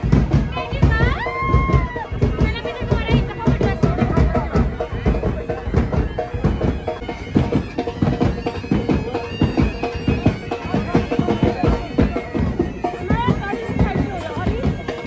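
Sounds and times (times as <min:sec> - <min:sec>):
drums beating: 0:00.0 - 0:15.0
bagpipe drone and melody: 0:02.0 - 0:15.0.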